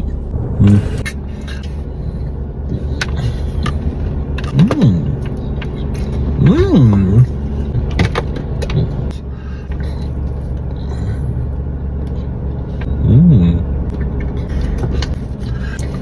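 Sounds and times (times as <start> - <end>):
car running low rumble: 0.0 - 16.0.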